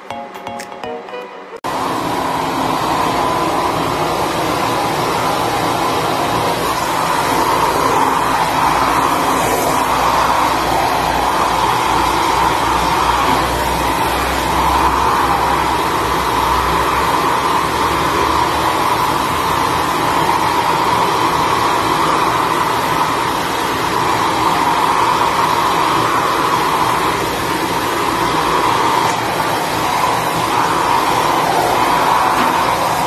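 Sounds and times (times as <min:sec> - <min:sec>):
hair dryer running: 0:01.7 - 0:33.0.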